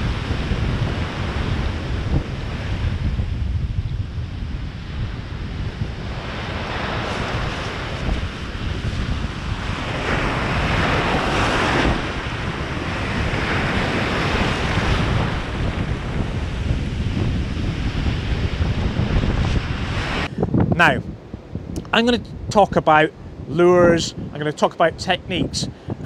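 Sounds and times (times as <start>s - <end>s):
sea surf breaking on shore: 0.0s - 26.0s
wind rumbling on microphone: 0.0s - 26.0s.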